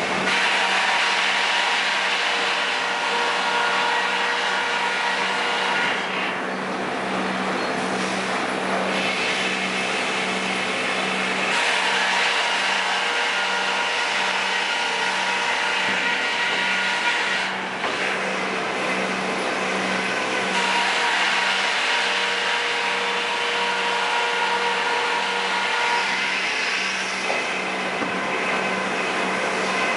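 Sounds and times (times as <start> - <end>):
sawmill machinery whirring: 0.0 - 29.9.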